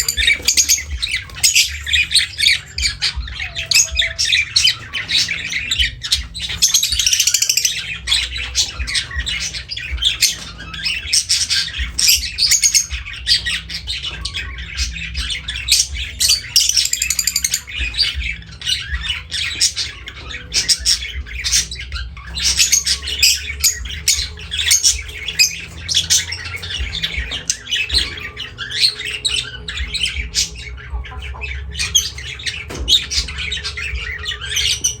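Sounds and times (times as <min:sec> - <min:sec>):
lovebirds chattering and squawking: 0:00.0 - 0:35.0.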